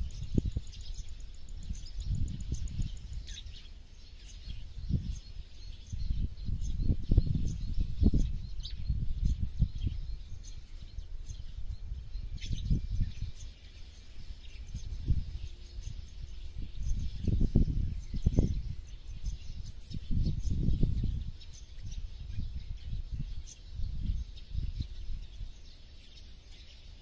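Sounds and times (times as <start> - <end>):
birds chirping: 0.0 - 27.0
wind gusts on microphone: 0.0 - 27.0.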